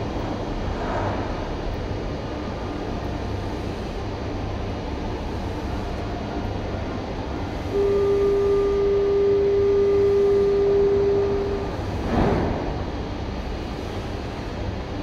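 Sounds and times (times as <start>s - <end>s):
metro train rumbling: 0.0s - 15.0s
loud steady tone: 2.2s - 15.0s.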